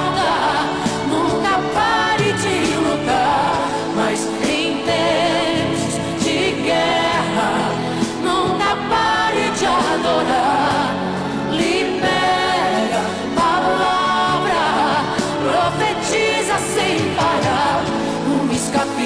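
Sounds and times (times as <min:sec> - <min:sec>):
pop song with vocals and band: 0:00.0 - 0:19.0.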